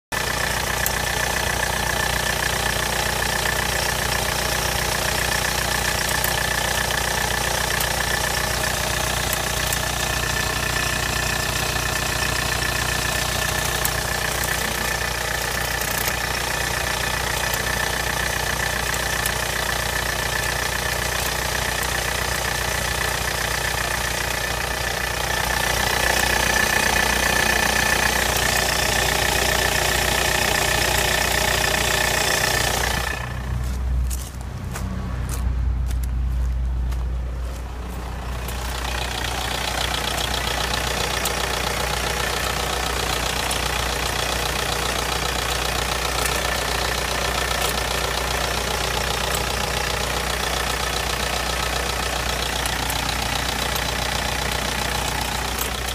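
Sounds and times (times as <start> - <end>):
diesel engine idling: 0.0 - 55.9
engine ticking: 0.0 - 55.9.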